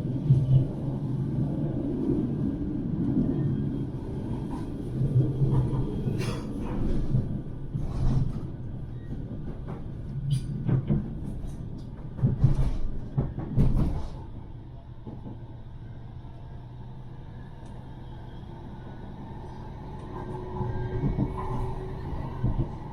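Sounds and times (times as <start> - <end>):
tram wheels rumbling on rail: 0.0 - 22.9.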